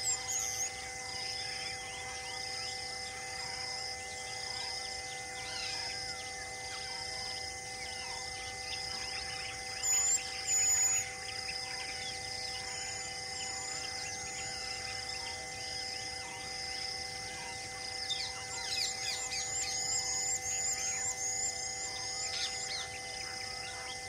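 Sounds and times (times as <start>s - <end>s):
loud whistled bird calls: 0.0s - 3.2s, 4.1s - 16.6s, 17.4s - 24.0s
faint bird chirps: 0.0s - 24.0s
pulsing insect buzz: 0.0s - 24.0s.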